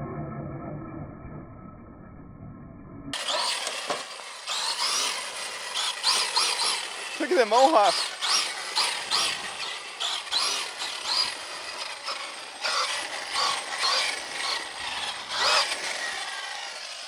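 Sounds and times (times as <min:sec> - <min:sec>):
electric motor whining: 0:03.2 - 0:17.0.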